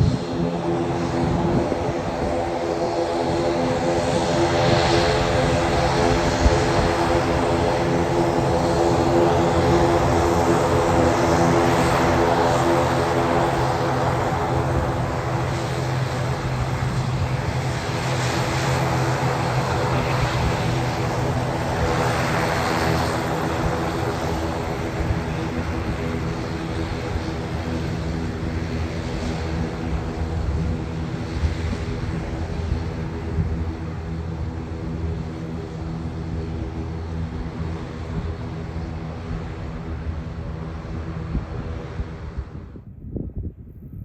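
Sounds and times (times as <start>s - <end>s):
turboprop engines running: 0.0s - 44.0s.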